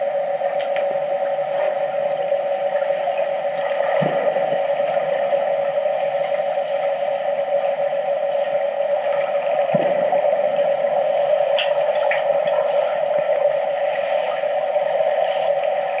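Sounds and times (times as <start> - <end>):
underwater mechanical hum: 0.0 - 16.0.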